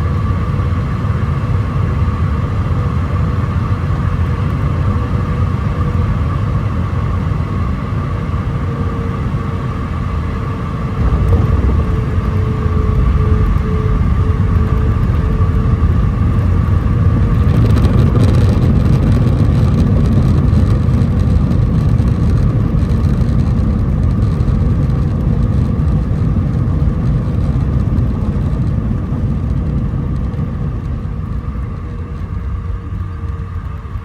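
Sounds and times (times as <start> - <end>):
engine and wheel rumble: 0.0 - 34.0
jet engine whine: 0.0 - 34.0.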